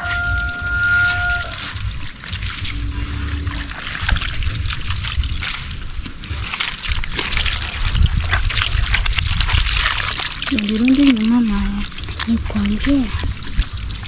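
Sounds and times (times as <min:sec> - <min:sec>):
low rumble: 0:00.0 - 0:14.0
small crackles: 0:00.0 - 0:14.0
water sloshing and splashing: 0:00.0 - 0:14.0.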